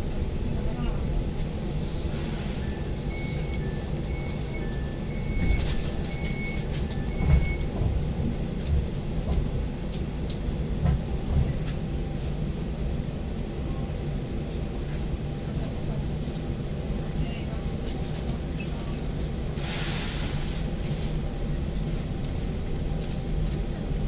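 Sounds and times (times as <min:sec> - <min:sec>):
train interior low rumble: 0:00.0 - 0:24.0.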